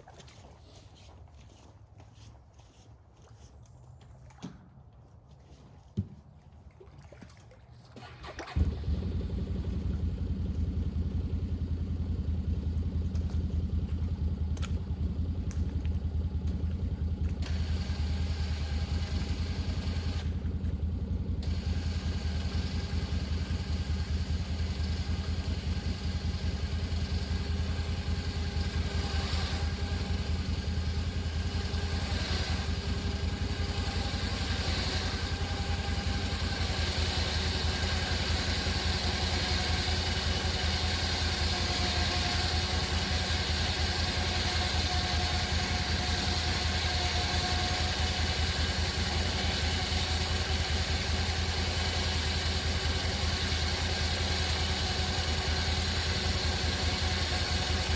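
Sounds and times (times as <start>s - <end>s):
vehicle engine idling: 8.0s - 57.9s.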